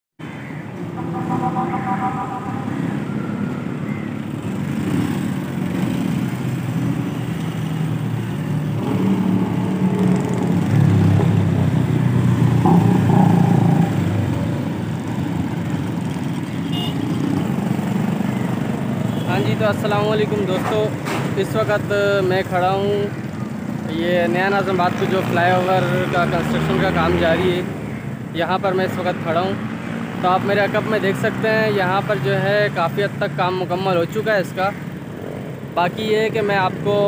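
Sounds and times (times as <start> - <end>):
street traffic: 0.2 - 37.0
motorcycle engines passing: 0.4 - 37.0.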